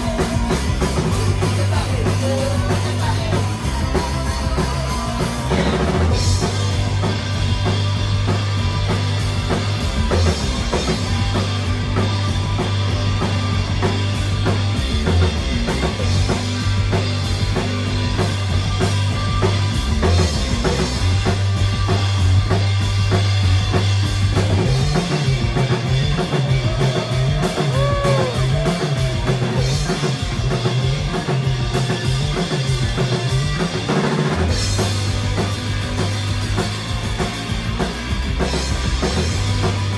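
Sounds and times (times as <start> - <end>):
live rock band instrumental: 0.0 - 39.9.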